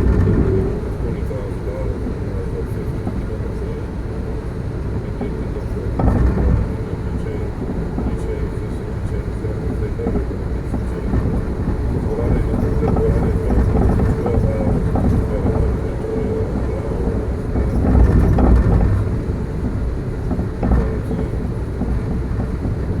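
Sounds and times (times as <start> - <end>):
passenger train rumbling: 0.0 - 23.0.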